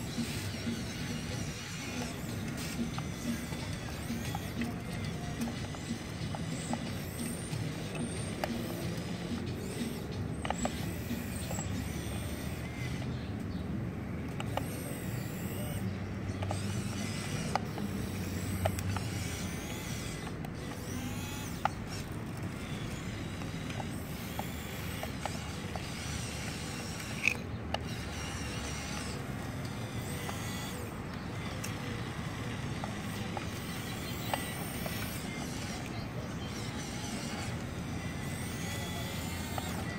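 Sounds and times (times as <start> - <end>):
model excavator motors whining: 0.0 - 39.9.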